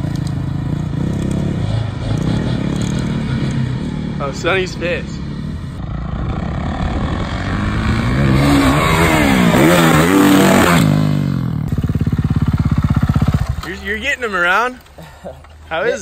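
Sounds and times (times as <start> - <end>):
dirt bike engine revving: 0.3 - 14.6.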